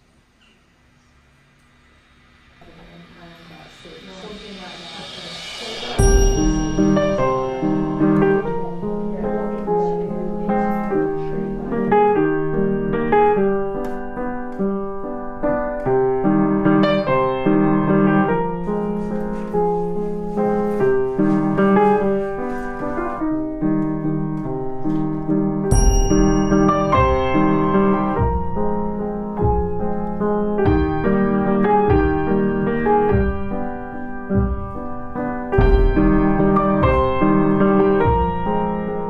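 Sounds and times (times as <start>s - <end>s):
gentle piano music: 5.9s - 39.0s.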